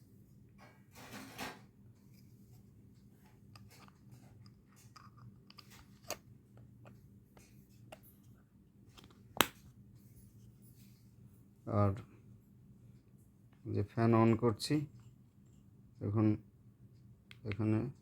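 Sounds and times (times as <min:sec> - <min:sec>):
low steady hum: 0:01.7 - 0:18.0.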